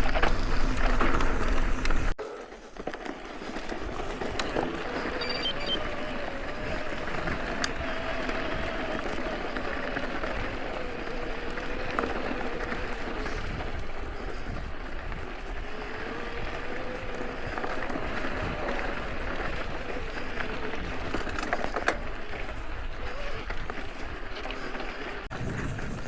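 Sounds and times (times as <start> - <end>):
bike tyres rolling on dirt: 0.0 - 26.0.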